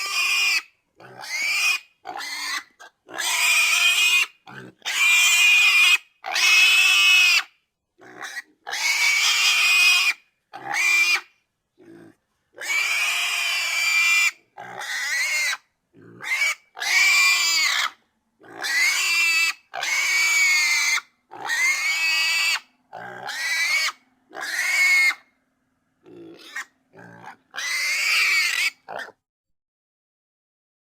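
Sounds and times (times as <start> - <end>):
pig squealing: 0.0 - 25.3, 26.0 - 29.2.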